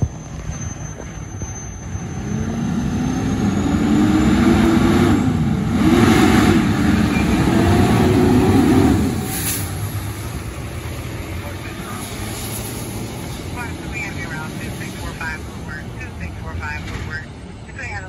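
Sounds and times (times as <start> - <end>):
diesel engine accelerating: 0.0 - 18.0.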